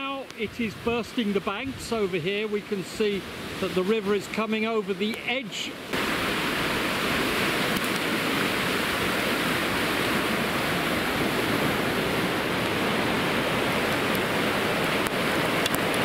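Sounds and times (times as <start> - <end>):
flooded river rushing: 0.0 - 16.0.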